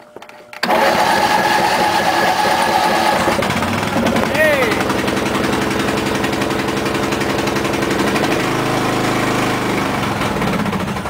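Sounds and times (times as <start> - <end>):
lawn tractor engine running: 0.2 - 11.0.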